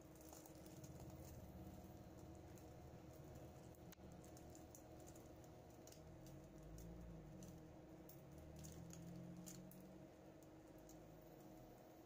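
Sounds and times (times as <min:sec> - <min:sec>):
hot oil crackling and popping: 0:00.0 - 0:12.0
low steady hum: 0:00.0 - 0:12.0.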